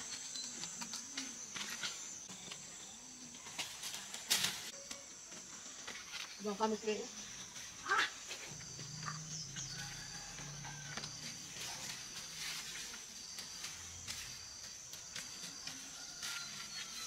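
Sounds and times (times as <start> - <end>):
high insect drone: 0.0 - 17.0
vines and leaves rustling: 0.0 - 17.0.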